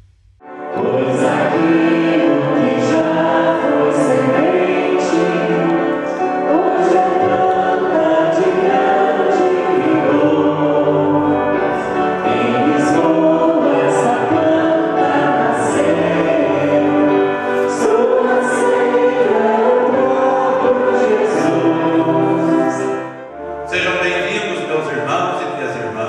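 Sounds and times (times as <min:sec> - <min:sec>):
church choir singing a hymn: 0:00.5 - 0:26.0.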